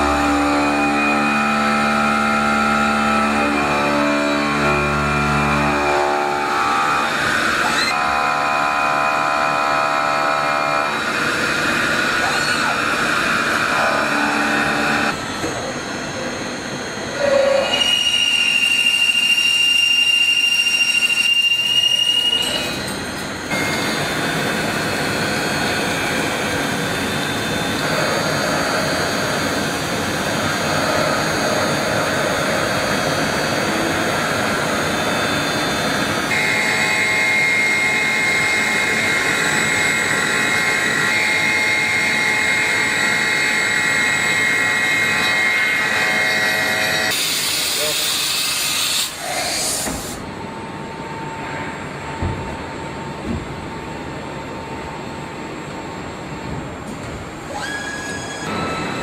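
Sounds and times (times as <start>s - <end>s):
machine cutting metal: 0.0s - 50.3s, 57.4s - 59.0s
machine high-pitched whine: 0.0s - 59.0s.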